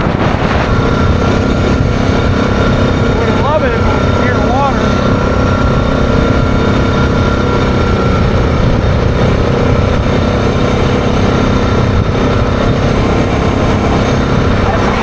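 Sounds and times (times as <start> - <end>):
engine droning: 0.0 - 15.0
rushing noise: 0.0 - 15.0.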